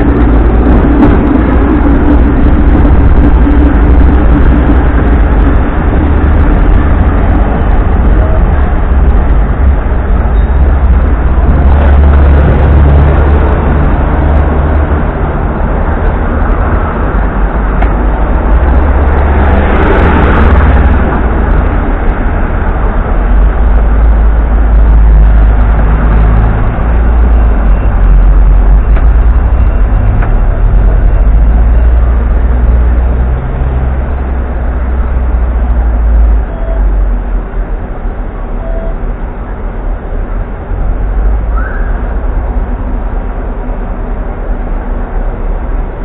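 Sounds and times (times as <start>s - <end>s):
tram low rumble: 0.0s - 46.0s.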